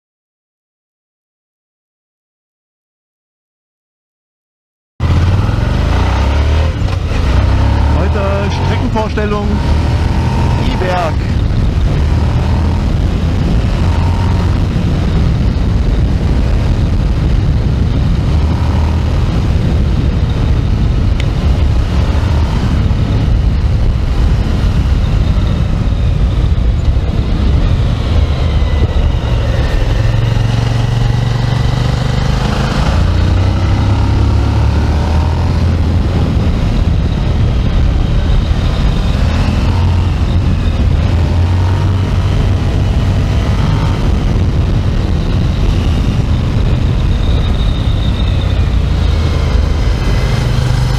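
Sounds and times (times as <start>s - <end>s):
motorcycle engine revving: 5.0s - 50.9s.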